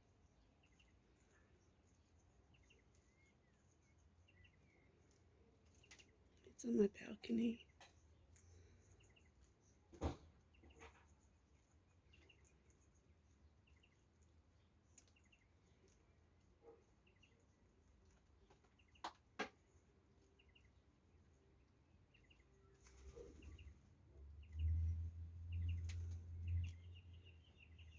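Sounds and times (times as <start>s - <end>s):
faint bird chirps: 0.1s - 27.9s.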